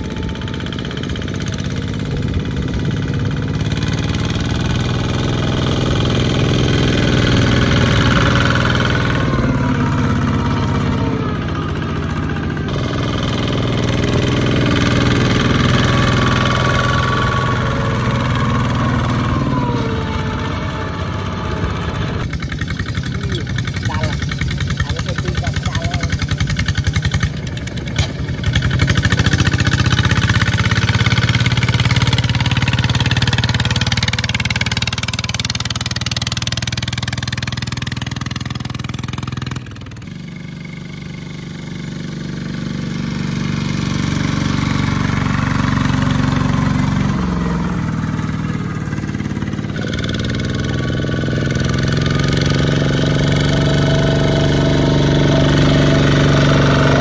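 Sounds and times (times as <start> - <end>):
diesel tractor engines running: 0.0 - 57.0.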